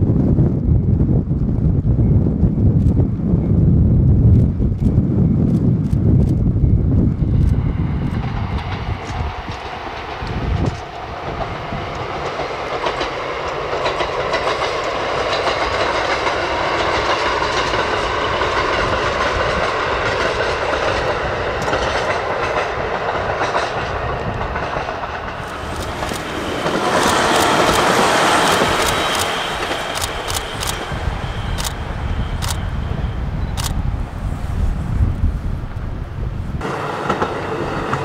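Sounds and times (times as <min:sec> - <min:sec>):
train rolling on rails: 0:00.0 - 0:38.0
rail clicks: 0:04.4 - 0:33.9, 0:36.6 - 0:38.0.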